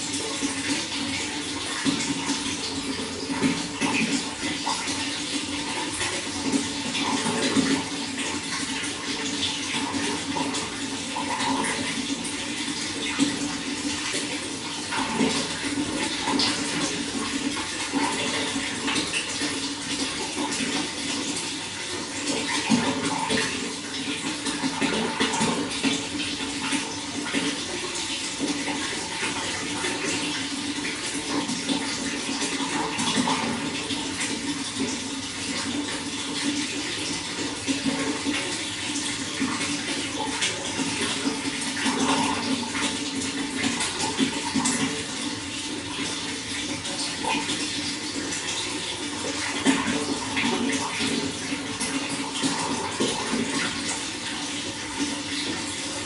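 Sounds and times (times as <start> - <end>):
running water flowing: 0.0 - 56.0.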